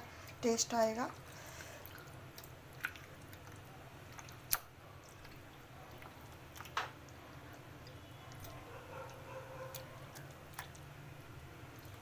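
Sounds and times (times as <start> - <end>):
wet squishing of marinade mixing: 0.0 - 12.0.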